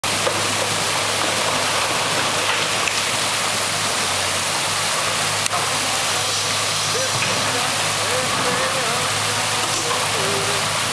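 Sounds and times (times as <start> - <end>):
excavator engine hum: 0.0 - 10.9
water rushing over rocks: 0.0 - 10.9.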